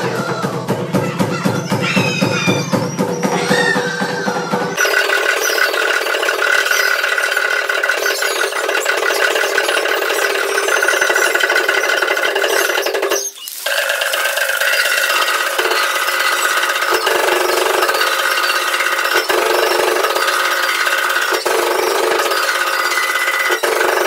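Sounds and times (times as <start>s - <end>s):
ankle rattles shaking: 1.7s - 24.0s.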